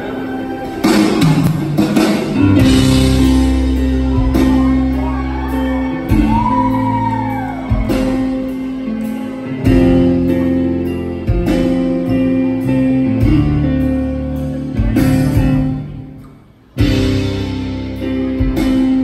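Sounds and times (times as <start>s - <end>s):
sustained keyboard chords: 0.0s - 7.0s, 7.7s - 19.0s
deep bass notes: 0.0s - 19.0s.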